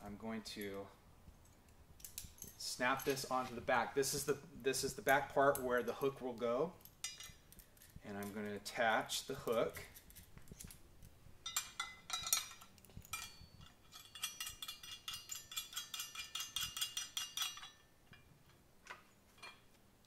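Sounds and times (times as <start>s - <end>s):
small metal hardware clinking: 1.5s - 3.6s, 5.0s - 8.6s, 9.2s - 19.8s.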